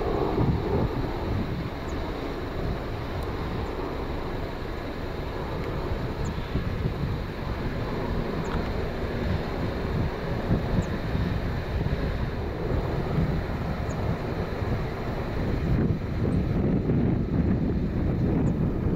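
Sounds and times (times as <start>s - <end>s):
jet engines rumbling overhead: 0.0s - 18.9s
wind buffeting microphone: 0.0s - 18.9s.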